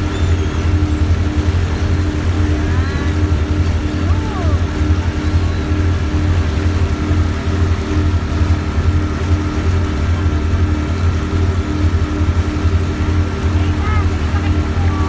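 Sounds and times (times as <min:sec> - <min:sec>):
boat engine droning: 0:00.0 - 0:15.0
churning wake water: 0:00.0 - 0:15.0.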